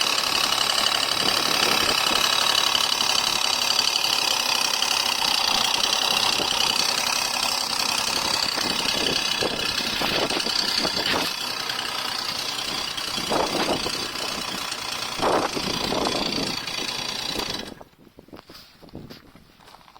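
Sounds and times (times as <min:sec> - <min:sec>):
scooter engine rattling: 0:00.0 - 0:19.9.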